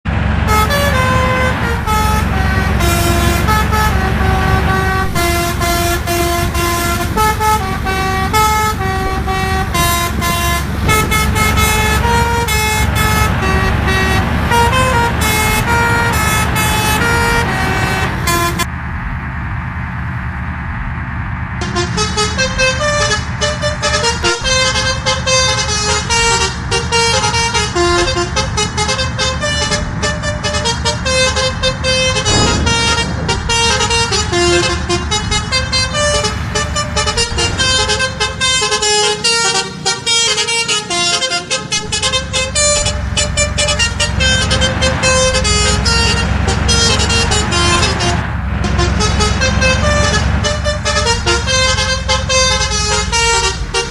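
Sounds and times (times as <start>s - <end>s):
low engine rumble: 0.0s - 53.9s
musical horn tune: 0.4s - 18.7s, 21.6s - 53.9s.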